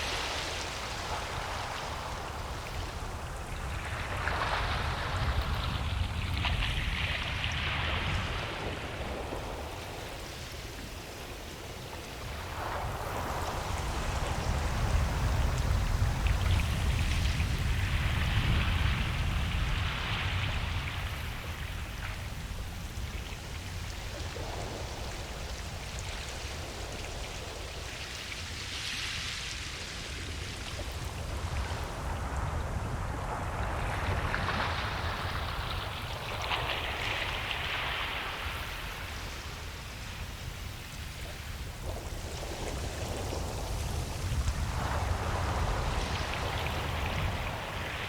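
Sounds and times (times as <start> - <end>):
ocean waves breaking on beach: 0.0 - 48.0.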